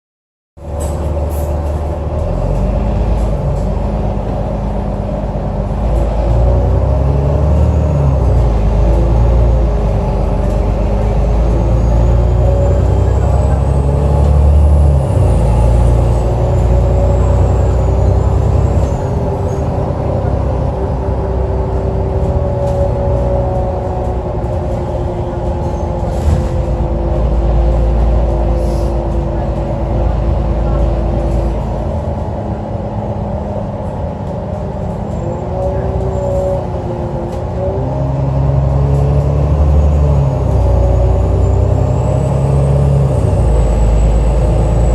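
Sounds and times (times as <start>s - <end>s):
bus engine droning: 0.6s - 44.9s.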